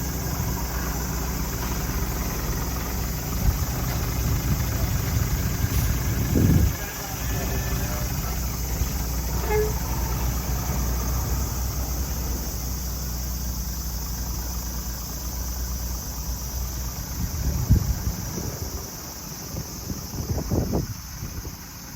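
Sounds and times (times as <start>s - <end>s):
car engine idling: 0.0s - 21.9s
engine knock: 0.0s - 21.9s.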